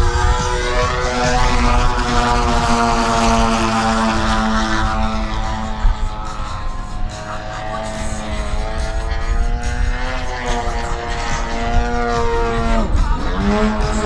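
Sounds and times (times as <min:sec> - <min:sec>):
low rumble: 0:00.0 - 0:14.0
model airplane engine: 0:00.0 - 0:14.0.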